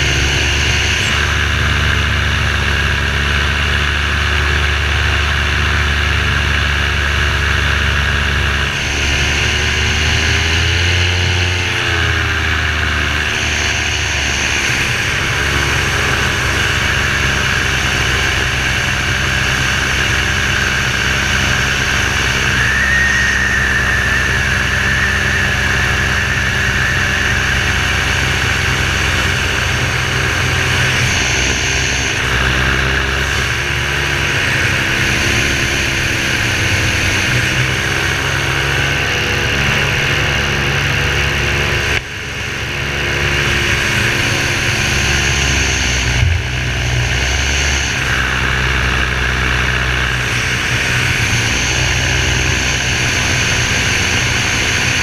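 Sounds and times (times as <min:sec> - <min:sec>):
paramotor engine and propeller running: 0:00.0 - 0:55.0.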